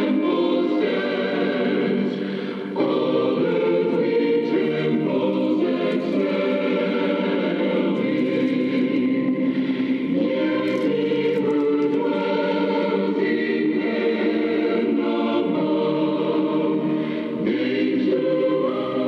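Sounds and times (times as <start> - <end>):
choir singing in harmony: 0.0 - 19.0.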